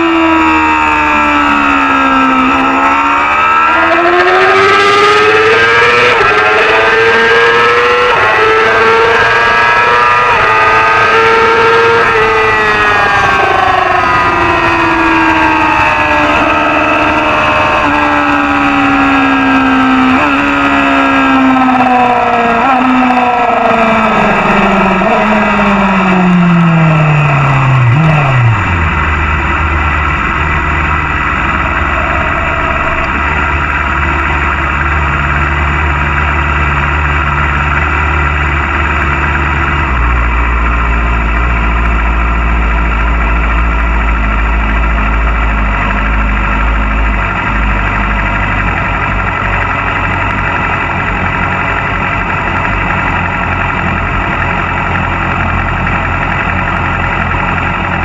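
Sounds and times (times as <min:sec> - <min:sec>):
motorcycle engine revving down and idling: 0:00.0 - 0:58.0.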